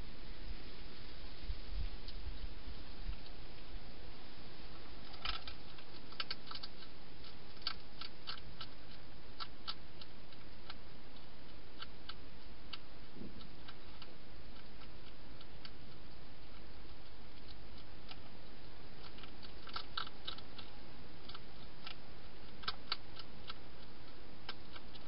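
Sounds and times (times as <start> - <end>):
steady hiss: 0.0 - 25.0
hedgehog chewing clicks: 4.8 - 25.0.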